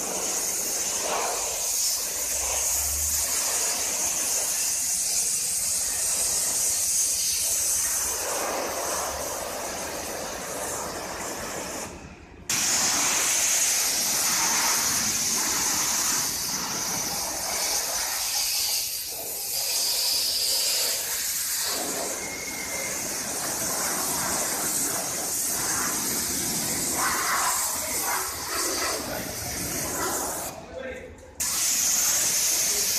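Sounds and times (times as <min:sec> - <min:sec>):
pressure washer jet hissing: 0:00.0 - 0:30.6, 0:31.4 - 0:32.9.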